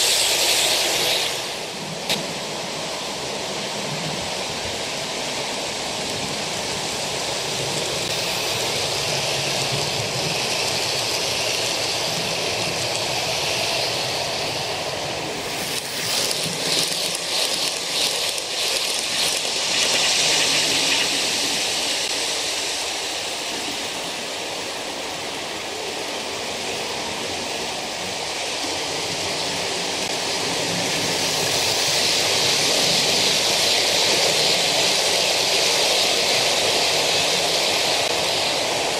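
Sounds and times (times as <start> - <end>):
wheels clicking over rail joints: 0.0 - 25.9, 27.2 - 38.9
model trains rumbling on track: 0.0 - 38.9.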